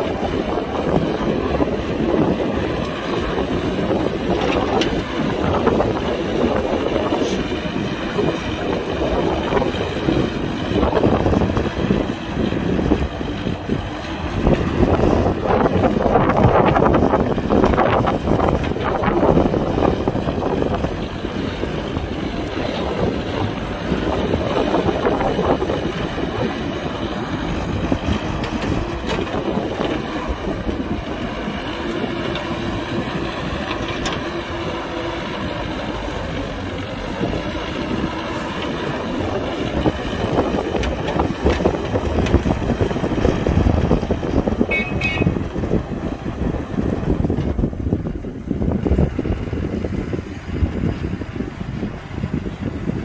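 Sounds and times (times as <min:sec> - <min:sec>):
excavator diesel engine rumbling: 0:00.0 - 0:53.0
wind buffeting microphone: 0:00.0 - 0:53.0.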